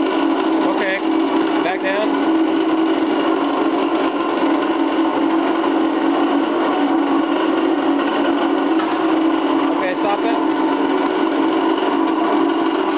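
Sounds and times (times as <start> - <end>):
polishing machine motors humming: 0.0 - 12.9.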